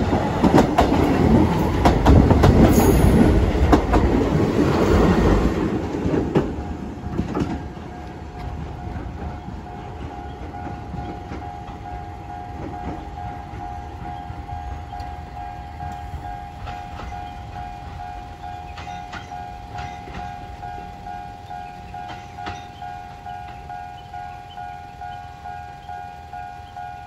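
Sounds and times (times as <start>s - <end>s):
train rumbling: 0.0s - 27.0s
train wheel clicks: 0.0s - 27.0s.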